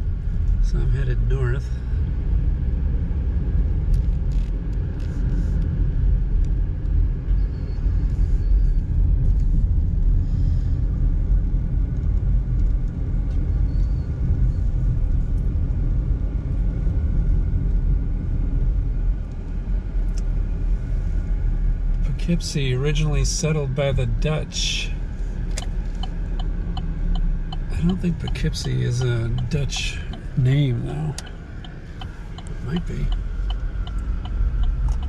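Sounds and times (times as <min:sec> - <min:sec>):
car driving low rumble: 0:00.0 - 0:35.0.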